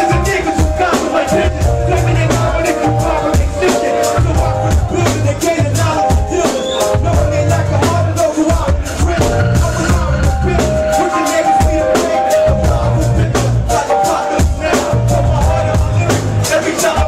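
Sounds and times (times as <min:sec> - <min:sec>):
live band playing hip hop: 0:00.0 - 0:17.0
person rapping: 0:00.0 - 0:17.0.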